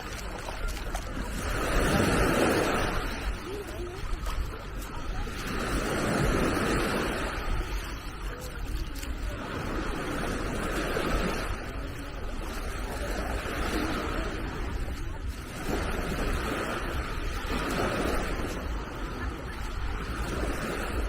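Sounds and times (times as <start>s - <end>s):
sea waves washing onto beach: 0.0s - 21.0s
wind rumbling on microphone: 0.0s - 21.0s.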